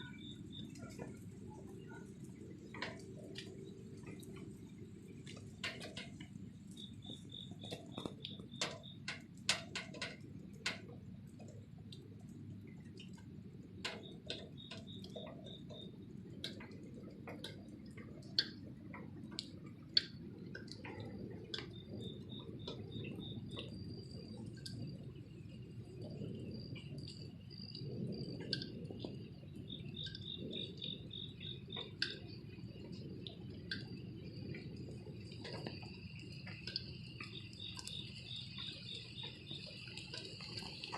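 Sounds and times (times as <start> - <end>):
cricket chirring: 0.0 - 40.9
low rumble of rainfall: 0.0 - 40.9
rain dripping and tapping: 0.0 - 40.9.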